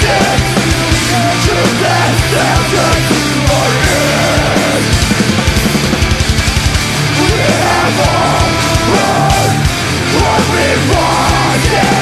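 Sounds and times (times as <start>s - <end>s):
person yelling over music: 0.0s - 5.0s, 7.1s - 12.0s
distorted guitars: 0.0s - 12.0s
rapid kick drum: 0.0s - 12.0s.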